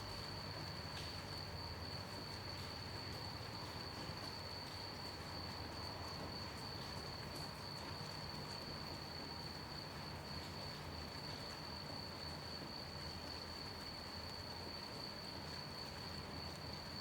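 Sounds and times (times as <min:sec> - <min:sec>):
crickets chirping: 0:00.0 - 0:17.0
light rain hiss: 0:00.0 - 0:17.0.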